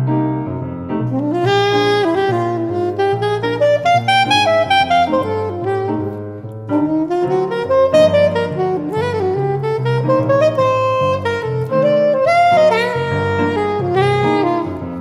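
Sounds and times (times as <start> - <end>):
saxophone melody: 0.9 - 15.0.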